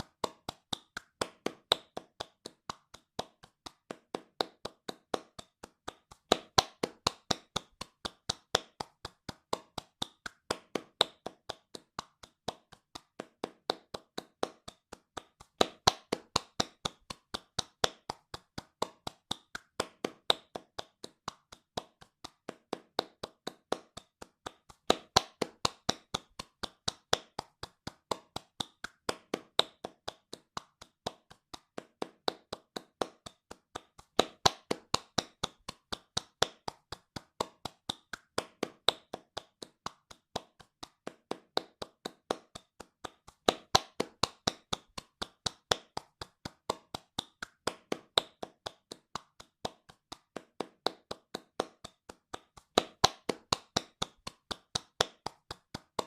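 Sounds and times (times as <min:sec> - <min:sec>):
hands clapping fast: 0:00.0 - 0:56.0.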